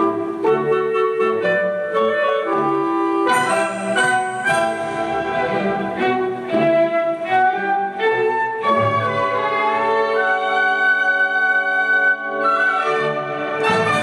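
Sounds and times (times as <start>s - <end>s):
orchestral string music: 0.0s - 14.0s.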